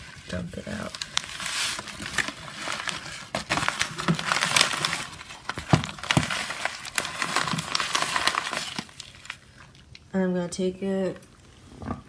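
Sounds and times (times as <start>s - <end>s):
cage liner crinkling: 0.0s - 10.0s.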